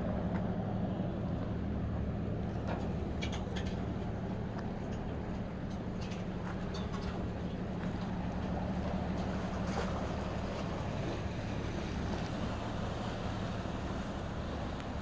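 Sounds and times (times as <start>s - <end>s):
low steady hum: 0.0s - 15.0s
sea noise: 0.0s - 15.0s.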